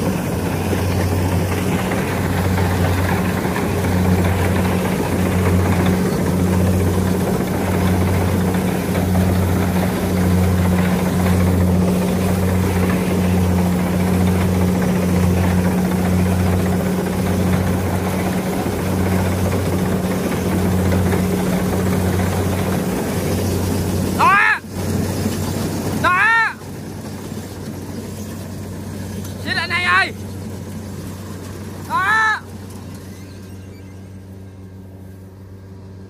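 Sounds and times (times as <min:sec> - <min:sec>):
engine pulsing hum: 0:00.0 - 0:36.0.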